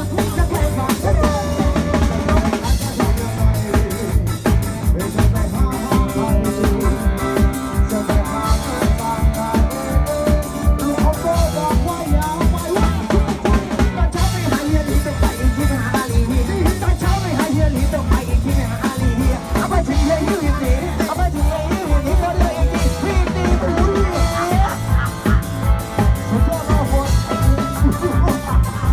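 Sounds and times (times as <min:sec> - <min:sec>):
fast drum beat: 0:00.0 - 0:28.9.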